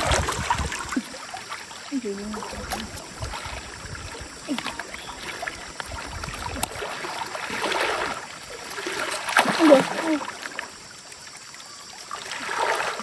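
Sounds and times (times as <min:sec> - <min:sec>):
stream water rushing and splashing: 0:00.0 - 0:13.0.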